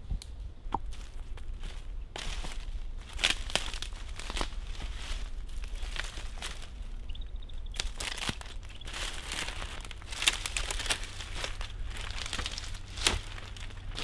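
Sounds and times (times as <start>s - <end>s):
dry leaves crackling and rustling: 0.9s - 14.0s.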